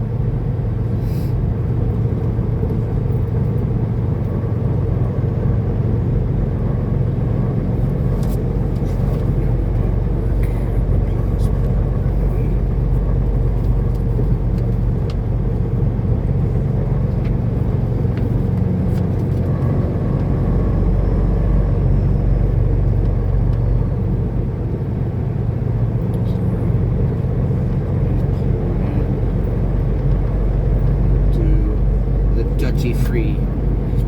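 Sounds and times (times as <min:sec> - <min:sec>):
diesel engine drone: 0:00.0 - 0:34.0.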